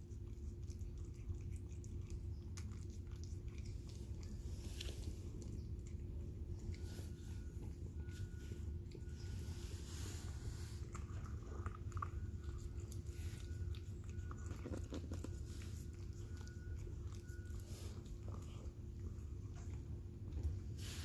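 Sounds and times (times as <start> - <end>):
cat chewing food: 0.0 - 21.0
steady low hum: 0.0 - 21.0.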